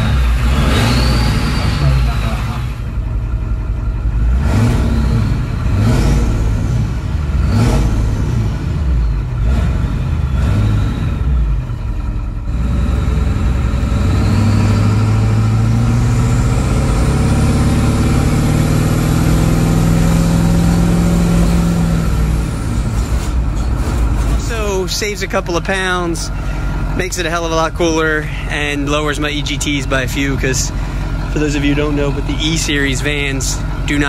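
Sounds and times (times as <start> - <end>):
diesel truck engine revving: 0.0 - 34.0
high turbo whine: 0.0 - 34.0.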